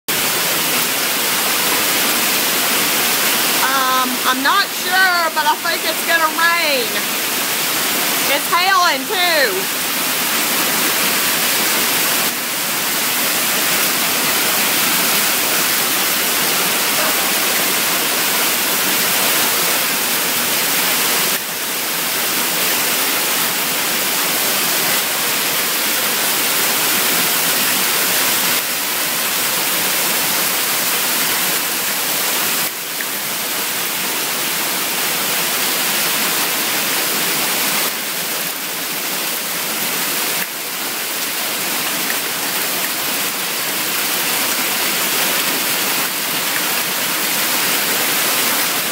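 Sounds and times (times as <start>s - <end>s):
heavy rain with hail: 0.1s - 48.9s.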